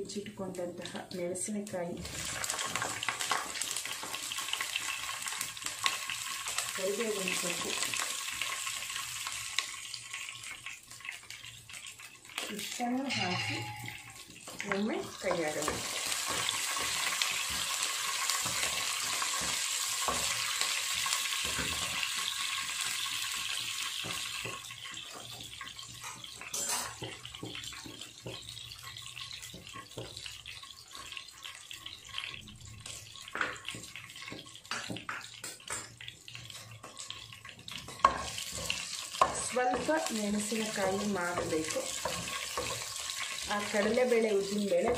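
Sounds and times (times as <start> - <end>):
spices sizzling in hot oil: 0.0 - 44.9.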